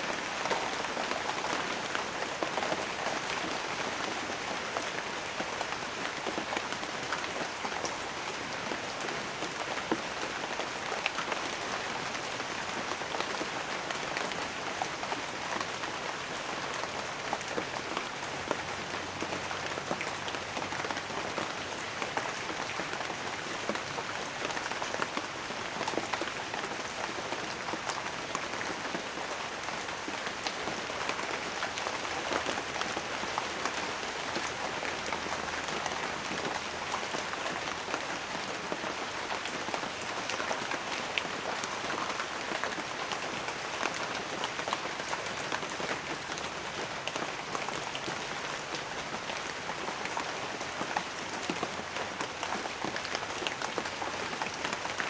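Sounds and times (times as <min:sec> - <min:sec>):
raindrops pattering on a surface: 0:00.0 - 0:55.0.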